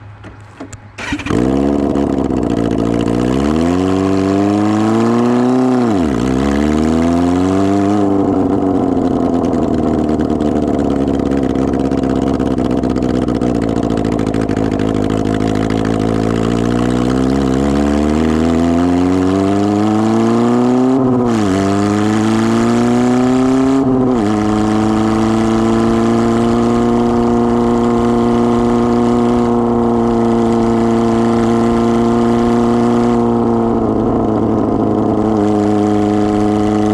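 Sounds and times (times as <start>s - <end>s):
unmuffled motorcycle engine revving: 0.0s - 36.9s.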